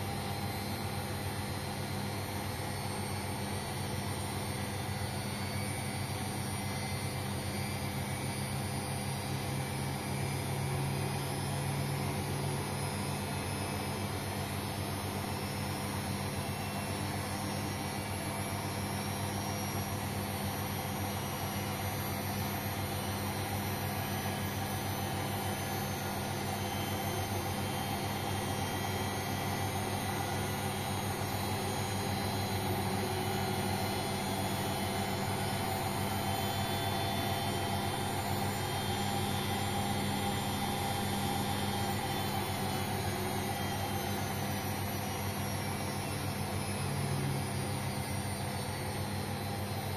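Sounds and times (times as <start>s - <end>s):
washing machine spinning: 0.0s - 49.9s.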